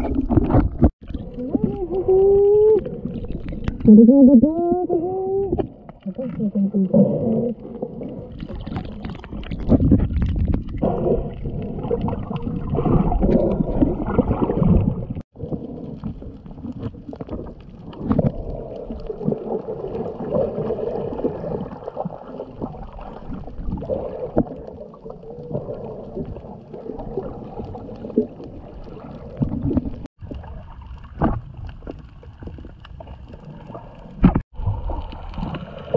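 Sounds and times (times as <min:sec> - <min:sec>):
low underwater rumbling: 0:00.0 - 0:35.9
water swirling and gurgling underwater: 0:00.0 - 0:35.9.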